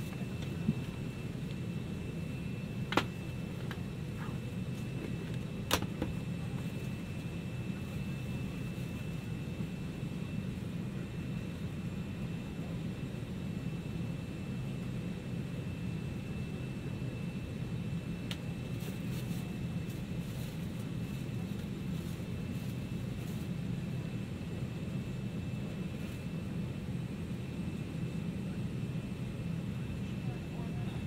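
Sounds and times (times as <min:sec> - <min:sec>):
aircraft cabin hum: 0:00.0 - 0:31.0.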